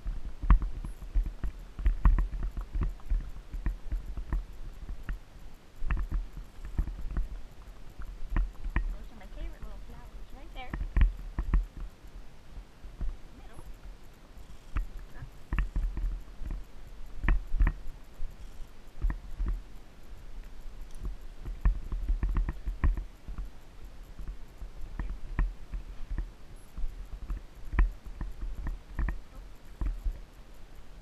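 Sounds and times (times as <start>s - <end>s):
horse hooves on dirt: 0.0s - 31.0s
steady low rumble: 0.0s - 31.0s.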